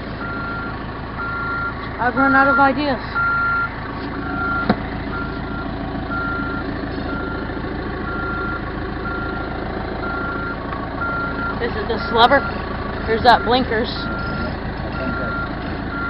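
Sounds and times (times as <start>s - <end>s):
diesel engine running: 0.0s - 16.0s
backup alarm beeping: 0.1s - 16.0s.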